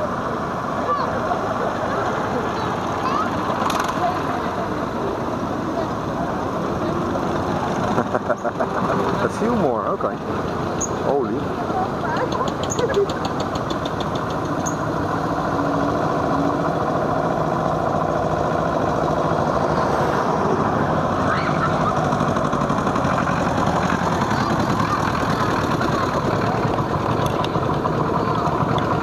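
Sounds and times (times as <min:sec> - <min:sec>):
old tractor engines running: 0:00.0 - 0:29.0.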